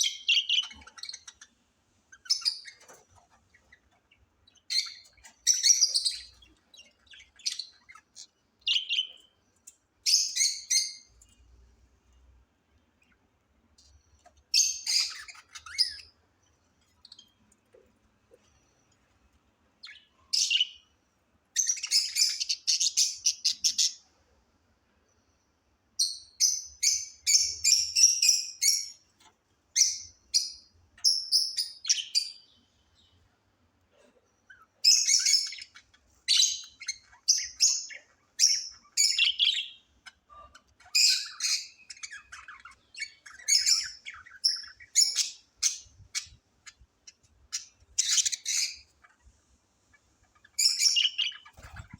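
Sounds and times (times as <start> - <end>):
budgerigars chirping and chattering: 0.0 - 11.4, 13.0 - 17.4, 19.8 - 21.0, 21.6 - 24.1, 26.0 - 33.2, 34.4 - 51.9.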